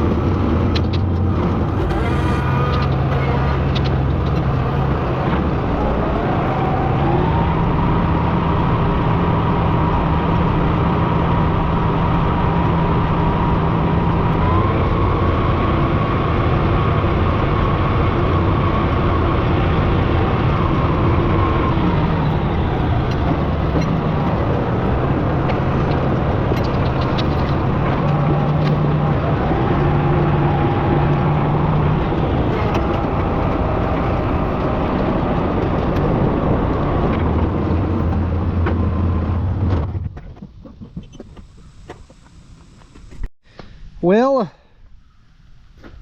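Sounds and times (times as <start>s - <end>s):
engine running at high speed: 0.0s - 40.2s.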